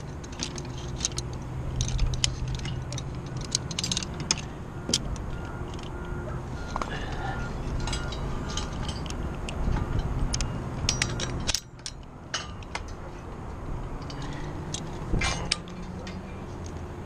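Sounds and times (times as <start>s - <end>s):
metal hardware clicking and clinking: 0.0s - 16.9s.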